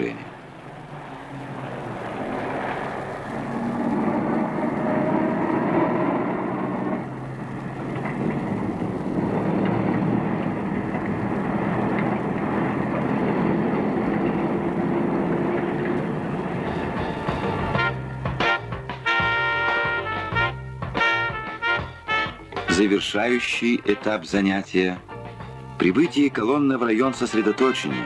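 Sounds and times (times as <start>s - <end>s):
truck engines under load: 0.0s - 28.0s.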